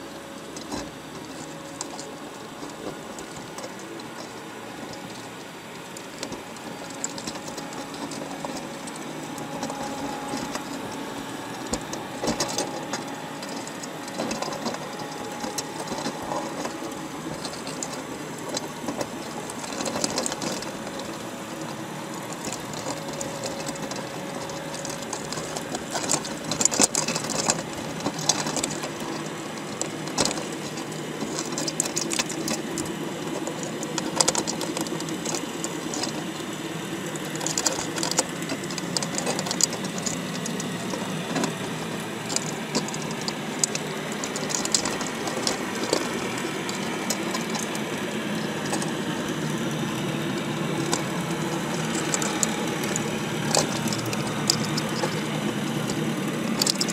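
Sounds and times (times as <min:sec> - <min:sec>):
motor running: 0:00.0 - 0:56.9
sharp clicks and clattering knocks: 0:00.0 - 0:56.9.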